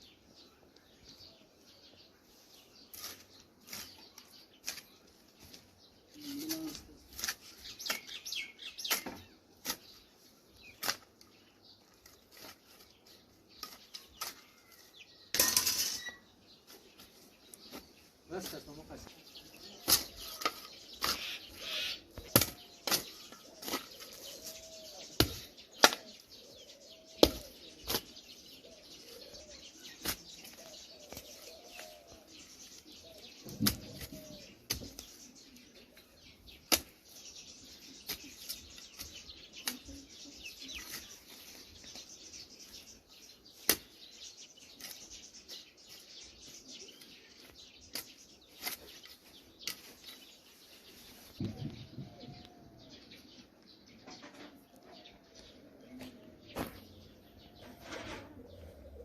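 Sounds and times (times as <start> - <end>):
birds calling: 0.0 - 59.0
birds chirping: 0.0 - 59.0.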